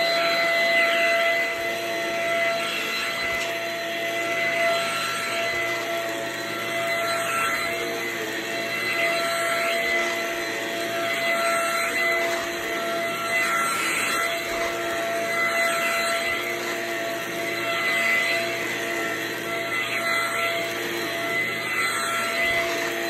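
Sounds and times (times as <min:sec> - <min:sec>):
vacuum cleaner running over carpet: 0:00.0 - 0:23.0.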